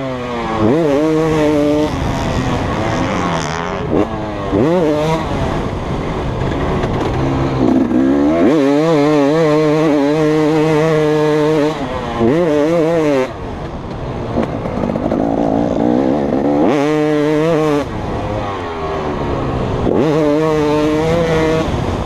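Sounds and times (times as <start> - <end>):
two-stroke motocross engine revving: 0.0 - 13.4, 14.2 - 22.0.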